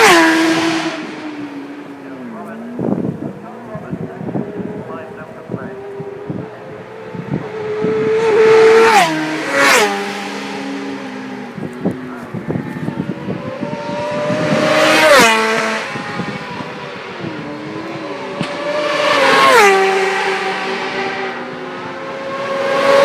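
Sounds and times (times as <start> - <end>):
faint distant motorcycle engines: 0.0 - 23.0
racing motorcycles passing by: 0.0 - 23.0.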